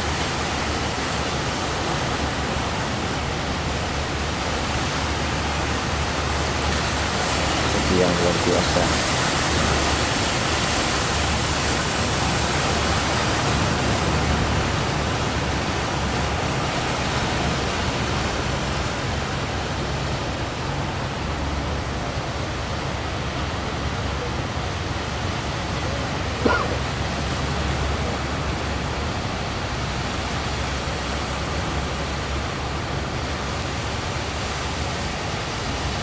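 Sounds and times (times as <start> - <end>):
ocean waves breaking: 0.0 - 36.0
surf rushing: 0.0 - 36.0
wind: 0.0 - 36.0.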